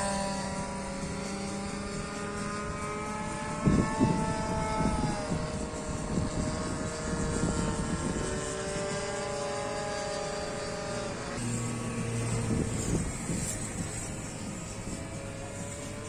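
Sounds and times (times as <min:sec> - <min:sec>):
model plane engines droning: 0:00.0 - 0:16.0.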